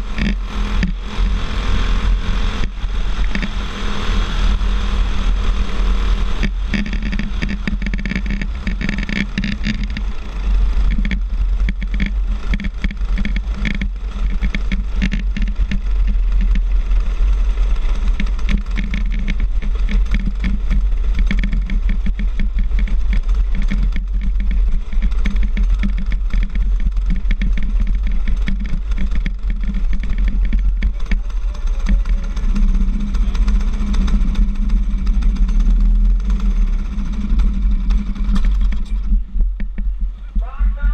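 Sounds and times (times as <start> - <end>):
go-kart engine running hard: 0.0 - 40.9
wind rumble on microphone: 0.0 - 40.9.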